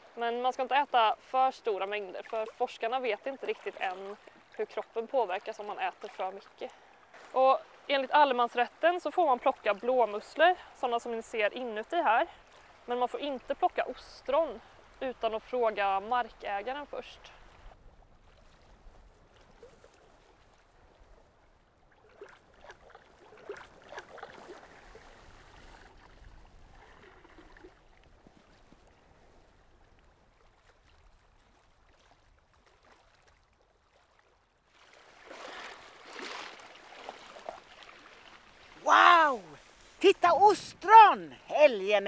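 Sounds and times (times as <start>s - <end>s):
shallow sea water lapping: 0.0s - 42.0s
person wading through water: 1.1s - 42.0s.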